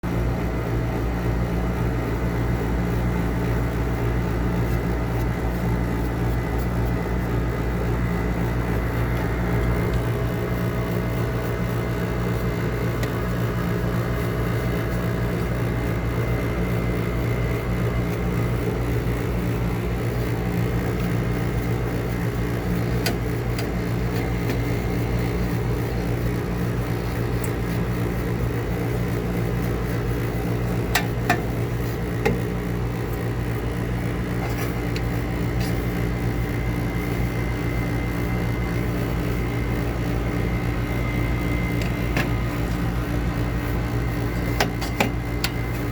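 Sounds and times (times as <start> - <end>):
electric motor humming: 2.2 - 45.9.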